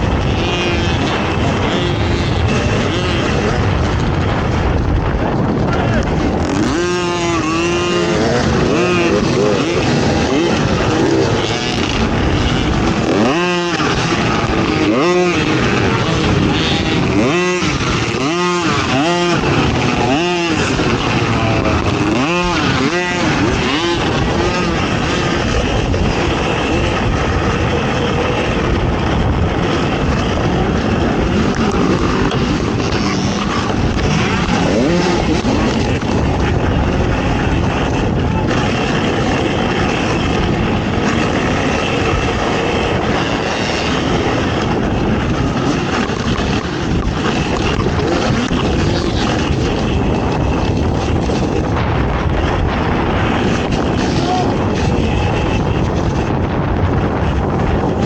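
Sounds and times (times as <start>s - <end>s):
atv engine revving: 0.0s - 58.0s
track noise: 0.0s - 58.0s
wind noise: 0.0s - 58.0s.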